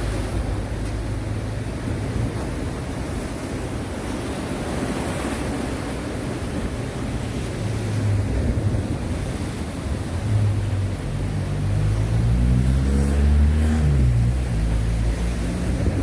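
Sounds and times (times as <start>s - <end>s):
sea waves washing on shore: 0.0s - 16.0s
wind on microphone: 0.0s - 16.0s.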